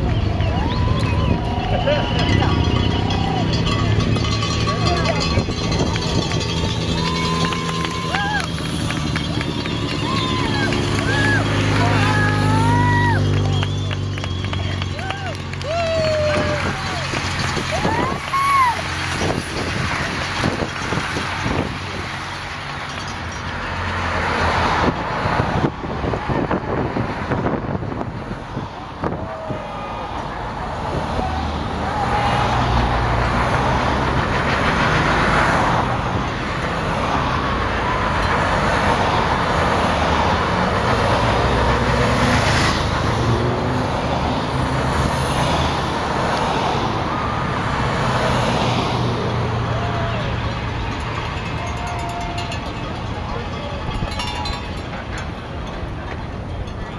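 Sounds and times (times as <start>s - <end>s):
bicycles rushing past: 0.0s - 55.7s
cars driving by: 0.0s - 56.9s.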